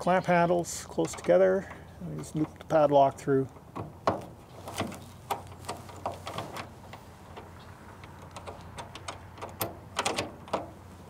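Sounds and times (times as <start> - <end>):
padlock clicking and rattling on metal: 1.0 - 10.8.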